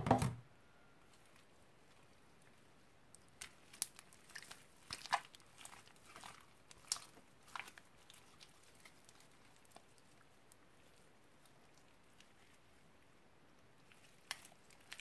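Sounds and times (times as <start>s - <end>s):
slime squelching and popping: 1.1s - 12.6s, 13.8s - 15.0s.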